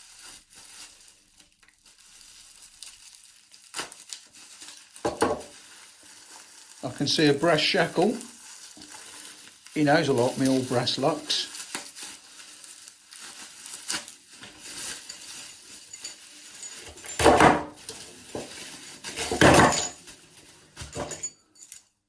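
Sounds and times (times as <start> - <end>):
packaging rustling: 0.0 - 21.7.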